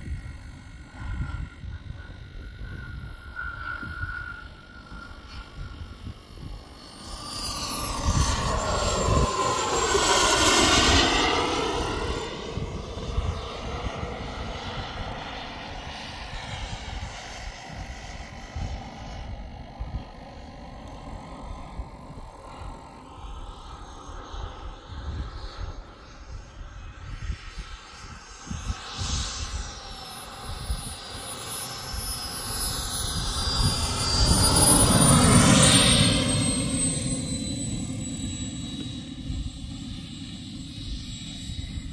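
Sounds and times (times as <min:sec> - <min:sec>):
jet turbine whine passing: 0:00.0 - 0:41.9
steady turbine sound: 0:00.0 - 0:41.9.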